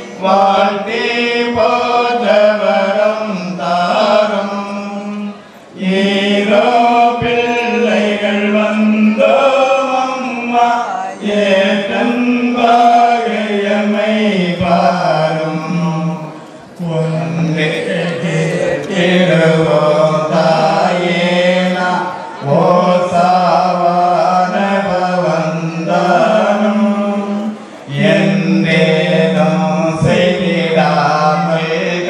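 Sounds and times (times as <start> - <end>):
church hymn sung slowly: 0.0 - 32.0.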